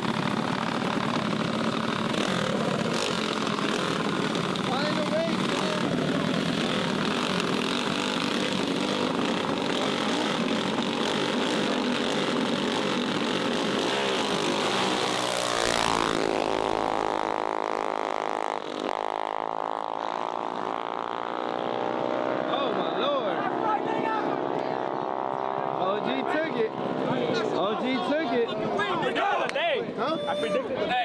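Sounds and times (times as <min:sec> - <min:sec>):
mini bike engines revving: 0:00.0 - 0:28.8.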